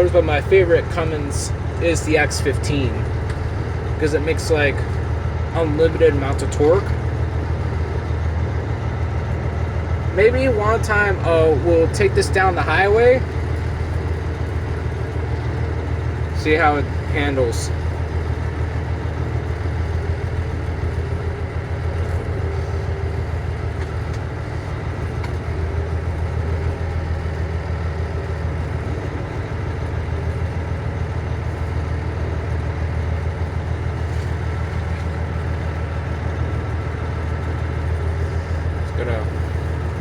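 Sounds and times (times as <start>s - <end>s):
truck diesel engine rumbling: 0.0s - 40.0s.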